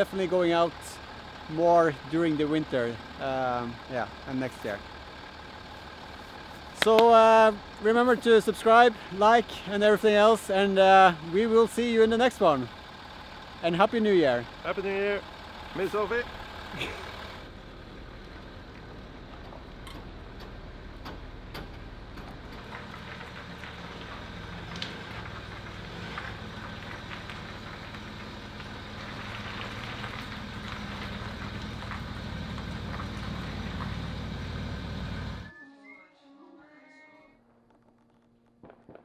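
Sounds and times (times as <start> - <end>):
vehicle engine idling: 0.0 - 35.5.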